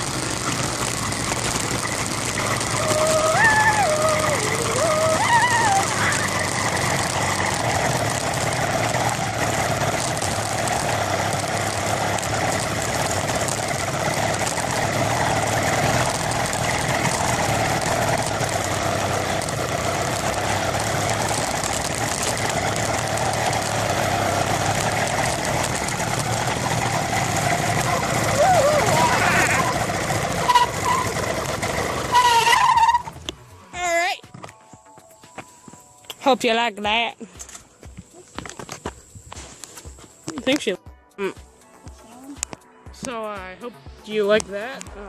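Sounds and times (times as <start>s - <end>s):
small engine running steadily: 0.0s - 43.1s.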